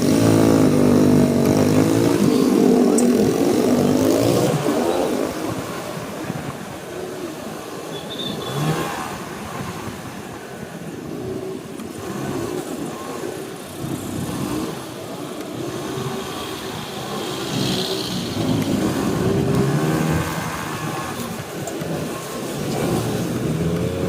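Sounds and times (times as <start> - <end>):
motorcycle engine revving: 0.0 - 10.3, 11.0 - 24.0
road and traffic noise: 0.0 - 24.0.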